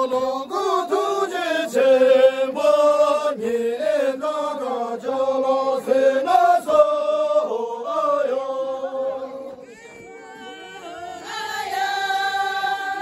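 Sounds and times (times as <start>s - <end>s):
group singing folk song in unison: 0.0s - 9.6s, 10.4s - 13.0s.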